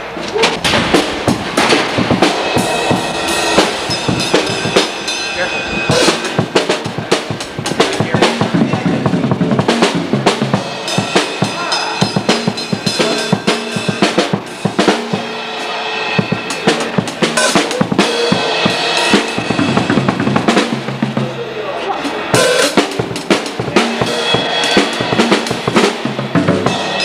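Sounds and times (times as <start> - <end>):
cymbals ringing: 0.0 - 27.0
drum kit playing: 0.0 - 27.0.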